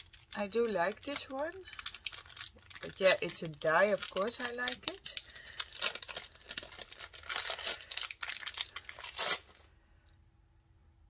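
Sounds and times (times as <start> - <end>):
paper and plastic crinkling: 0.0 - 9.7.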